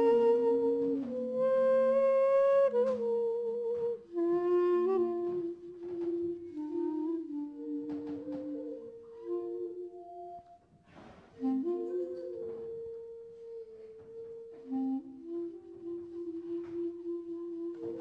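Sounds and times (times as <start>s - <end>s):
slow woodwind music: 0.0s - 18.0s.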